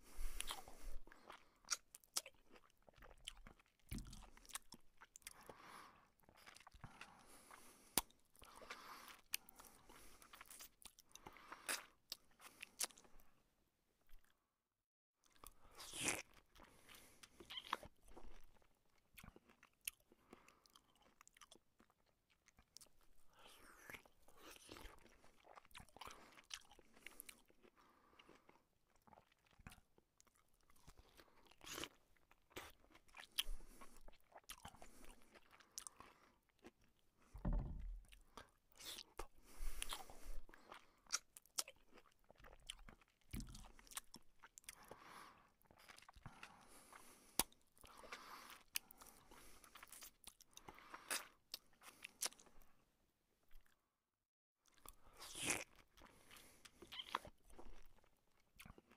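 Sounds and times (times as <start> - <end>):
man chewing with wet smacks: 0.2 - 13.3, 15.2 - 52.7, 54.6 - 58.9.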